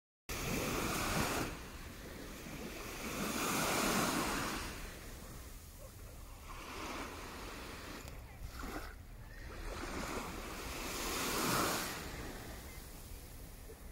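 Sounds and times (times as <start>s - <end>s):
small waves on pebbly shore: 0.3s - 13.9s.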